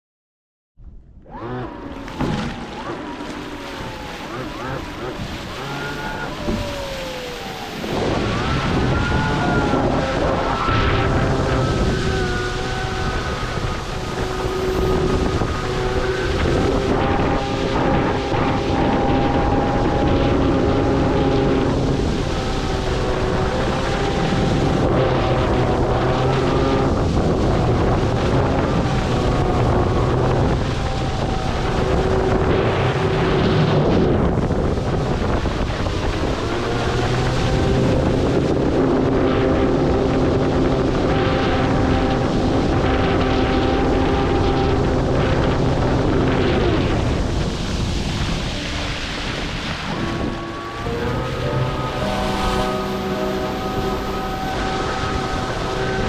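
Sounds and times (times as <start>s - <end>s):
boat motor whine: 0.8s - 56.0s
wind on microphone: 0.8s - 56.0s
rushing water: 1.2s - 56.0s.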